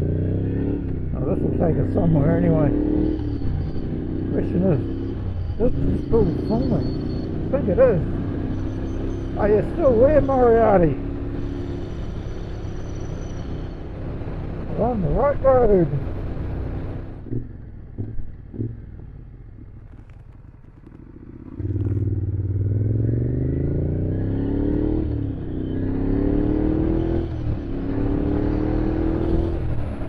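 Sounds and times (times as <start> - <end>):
motorcycle engine idling and accelerating: 0.0 - 30.0.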